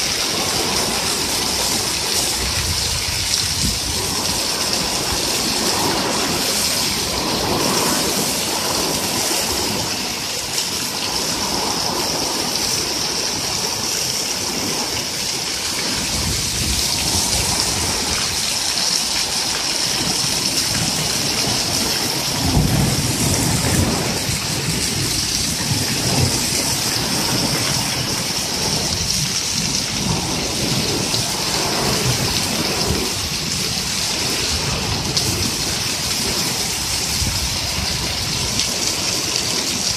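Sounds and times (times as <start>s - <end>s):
heavy rain hissing: 0.0s - 39.9s
runoff splashing on concrete: 0.0s - 39.9s
thunder rumble: 0.0s - 39.9s.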